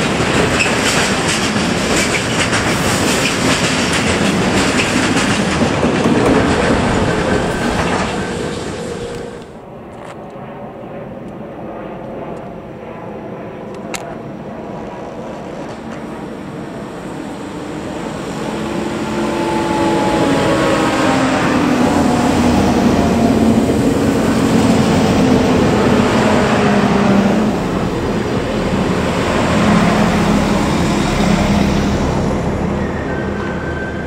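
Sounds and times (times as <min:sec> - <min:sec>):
wheels rushing on rail: 0:00.0 - 0:09.6, 0:13.9 - 0:34.0
train engine drone: 0:00.0 - 0:34.0.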